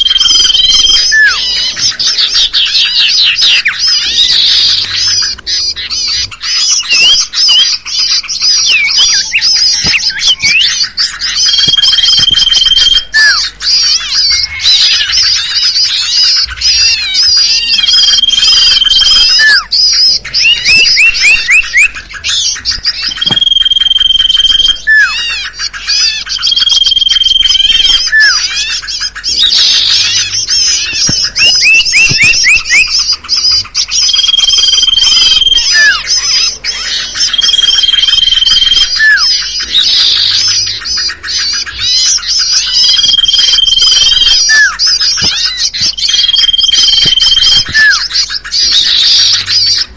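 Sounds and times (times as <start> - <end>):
high bird twittering: 0.0 - 49.9
level bird whistle: 0.0 - 49.9
rising bird chirps: 0.0 - 49.9.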